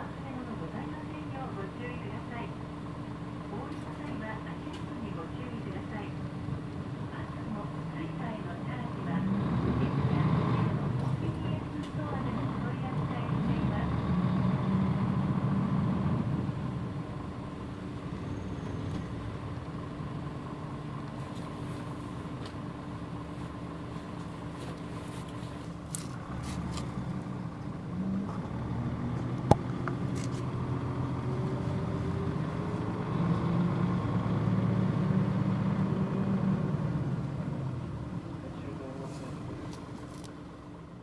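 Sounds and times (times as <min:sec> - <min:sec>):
bus diesel engine: 0:00.0 - 0:41.0.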